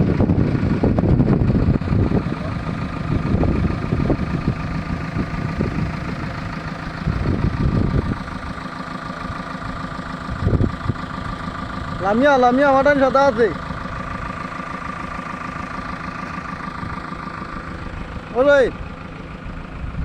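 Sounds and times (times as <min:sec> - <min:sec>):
engine knocks and surges: 0:00.0 - 0:20.0
heavy diesel engine running: 0:00.0 - 0:20.0.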